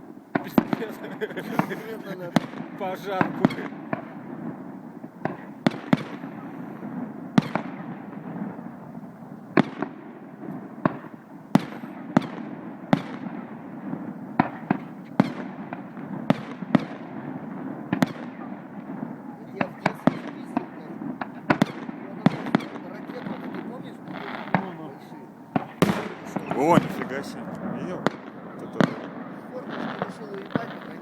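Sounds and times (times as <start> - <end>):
fireworks bangs with echo: 0.0 - 31.0.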